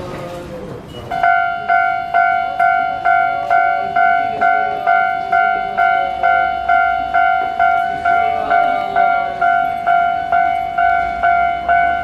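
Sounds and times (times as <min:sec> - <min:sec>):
level crossing warning bell: 0:01.1 - 0:12.0.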